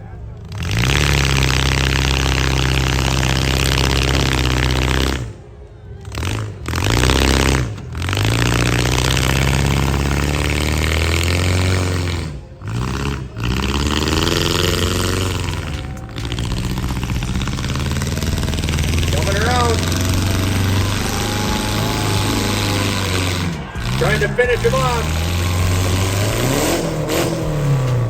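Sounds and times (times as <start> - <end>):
car engine revving hard: 0.0 - 28.0
cars scraping together: 0.0 - 28.0.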